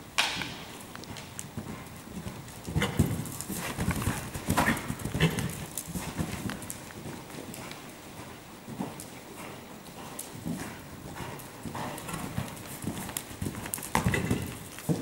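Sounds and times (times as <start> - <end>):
hoofbeats on sand: 1.0 - 15.0.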